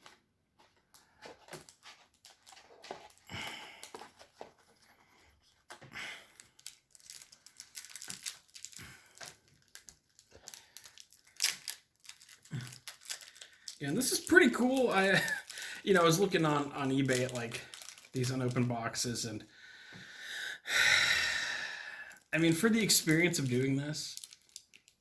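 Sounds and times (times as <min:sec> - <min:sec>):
packaging rustling and crinkling: 0:00.0 - 0:19.2, 0:22.8 - 0:25.0.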